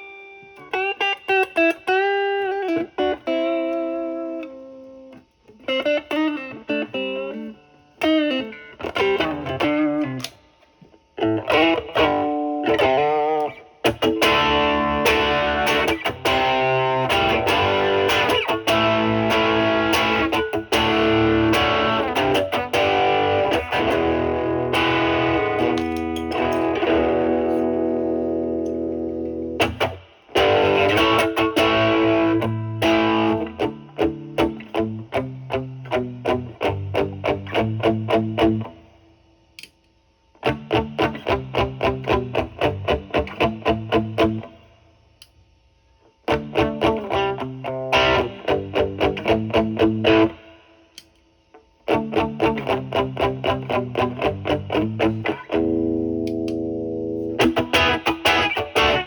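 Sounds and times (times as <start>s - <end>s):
overdriven electric guitar: 0.0s - 38.8s, 40.4s - 44.6s, 46.2s - 50.7s, 51.5s - 59.0s.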